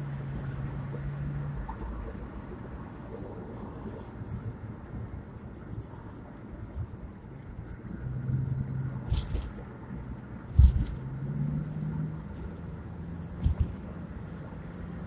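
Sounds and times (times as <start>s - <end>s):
road rumble: 0.0s - 15.0s.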